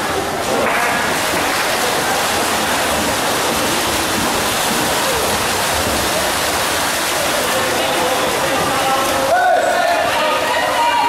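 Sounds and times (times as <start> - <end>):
water splashing from swimmers: 0.0 - 11.0.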